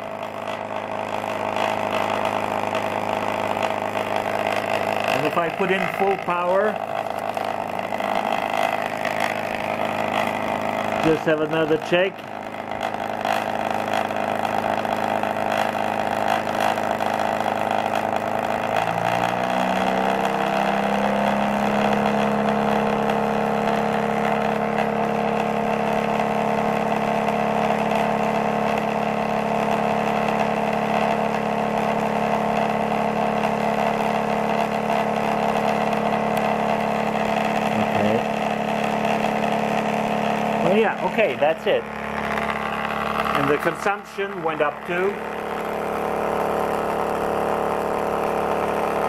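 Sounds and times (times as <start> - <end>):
generator machine hum: 0.0 - 49.0.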